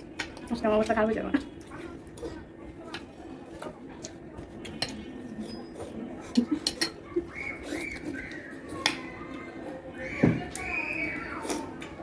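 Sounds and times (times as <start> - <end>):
spoons clinking and scraping on plates: 0.0 - 9.8.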